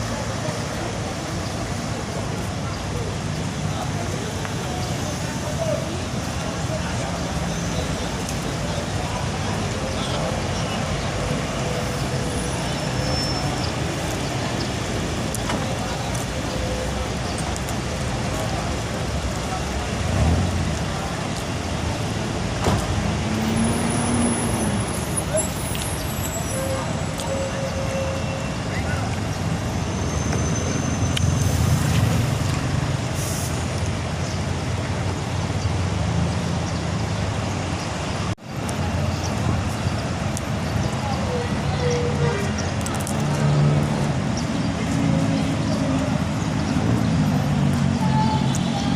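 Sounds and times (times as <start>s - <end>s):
bus and traffic engines humming: 0.0s - 48.9s.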